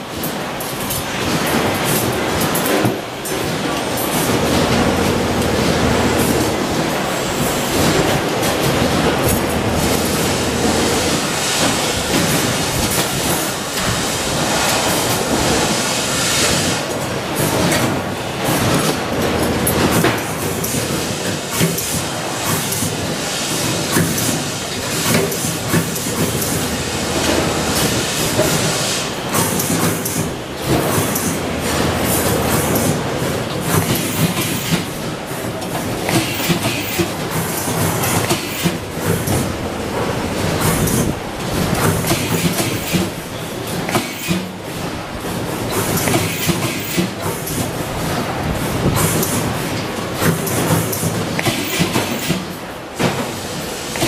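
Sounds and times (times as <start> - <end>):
factory machinery din: 0.0 - 54.0.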